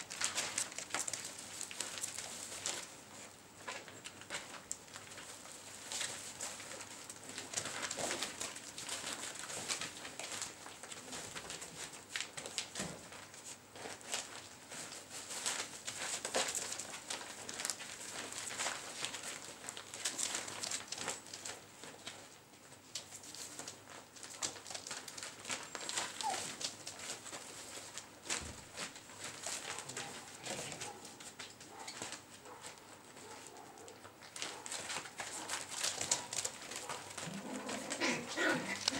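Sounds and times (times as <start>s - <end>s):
plastic sheet crinkling: 0.0s - 38.9s
small clicks and scuffles: 0.0s - 38.9s.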